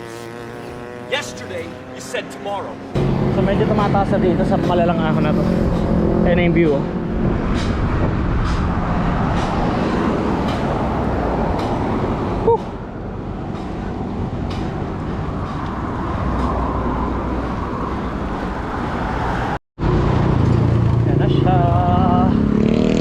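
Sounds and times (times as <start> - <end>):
road and traffic noise: 0.0 - 23.0.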